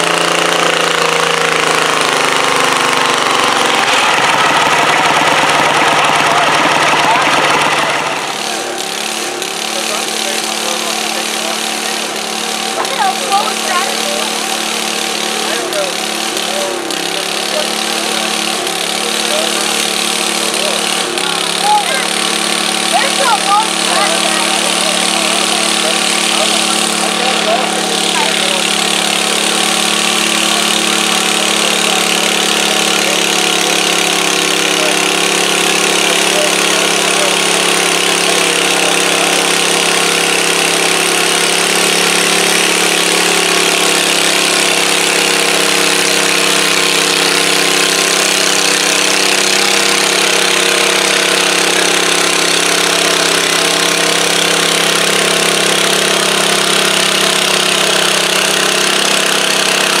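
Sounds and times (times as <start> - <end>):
garden tractor engine idling: 0.0 - 60.0.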